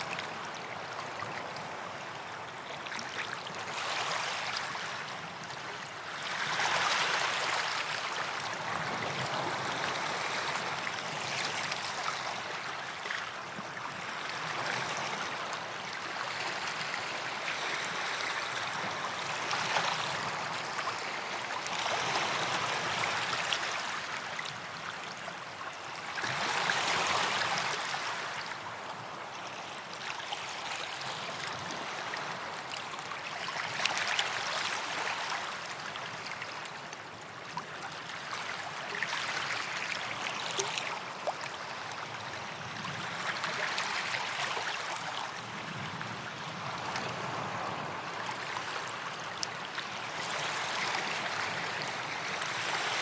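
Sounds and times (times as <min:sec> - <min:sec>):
waves washing onto sand: 0:00.0 - 0:37.3, 0:37.9 - 0:53.0.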